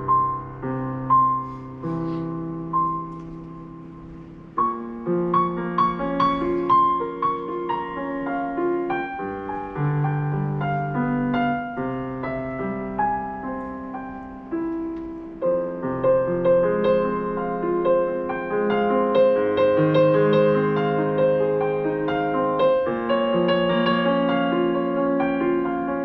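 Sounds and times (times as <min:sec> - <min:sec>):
slow solo piano: 0:00.0 - 0:26.0.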